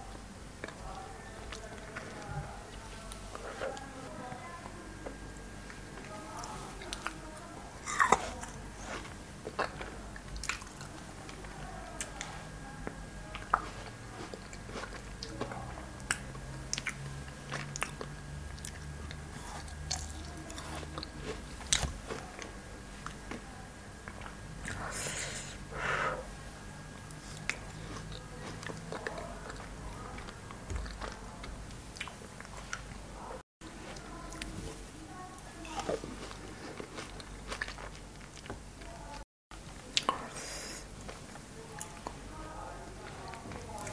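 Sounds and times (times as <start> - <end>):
chewing frozen cherries crunching: 0.1 - 25.5, 26.9 - 33.0, 35.4 - 39.2, 39.8 - 42.3.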